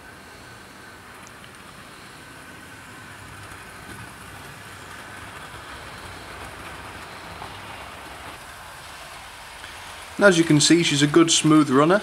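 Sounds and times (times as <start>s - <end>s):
faint motor whine: 0.0s - 12.0s
model train wheels rumbling on rails: 0.0s - 12.0s.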